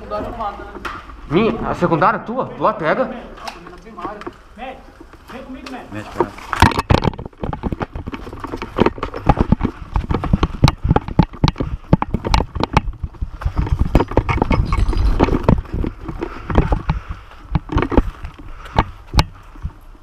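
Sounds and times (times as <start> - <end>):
running footsteps on rough ground: 0.0 - 20.0.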